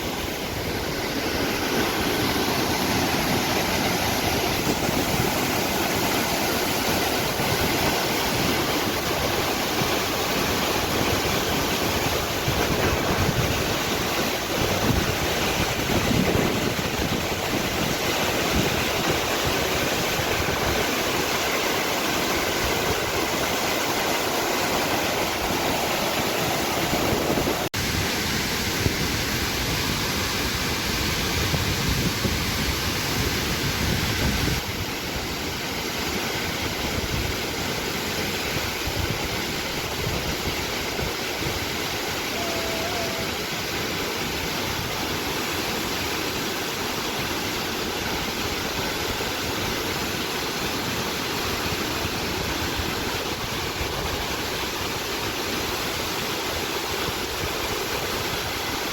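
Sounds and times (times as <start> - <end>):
waterfall and river rushing: 0.0 - 58.9.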